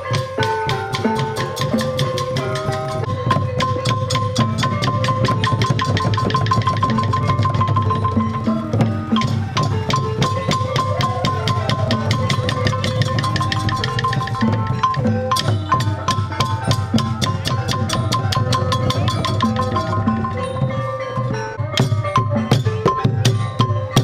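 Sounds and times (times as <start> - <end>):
hand drums beaten fast: 0.0 - 24.0
wavering melody line: 0.0 - 24.0.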